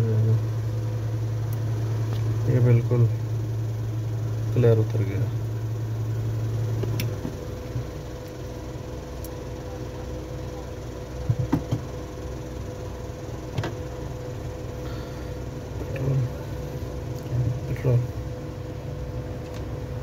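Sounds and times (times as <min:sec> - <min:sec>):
heavy low hum: 0:00.0 - 0:20.0
steady electrical hum: 0:00.0 - 0:20.0.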